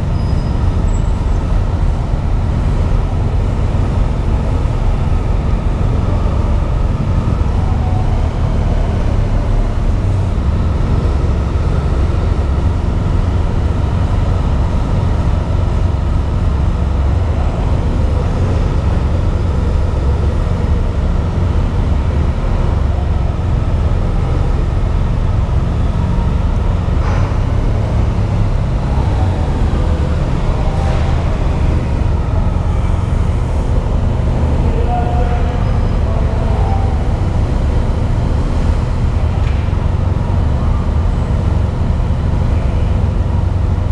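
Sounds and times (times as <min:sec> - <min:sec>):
motorcycle engine rumbling: 0:00.0 - 0:43.9.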